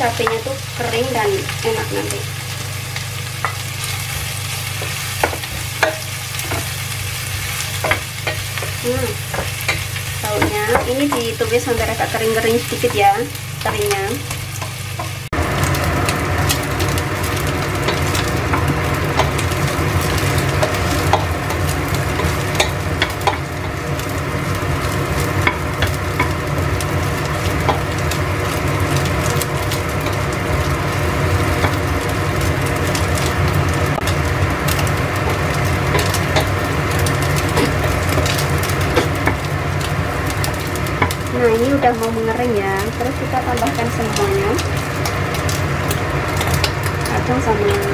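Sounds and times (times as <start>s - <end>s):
food sizzling in hot oil: 0.0s - 47.9s.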